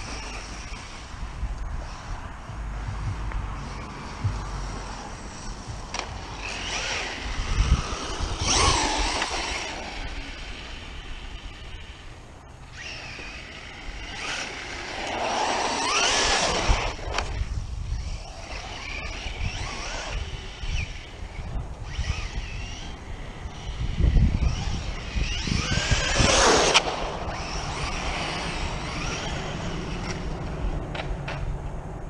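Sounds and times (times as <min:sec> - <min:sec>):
electric motor and gears whining: 0:00.0 - 0:31.5
tyre and wind rumble: 0:00.0 - 0:32.0.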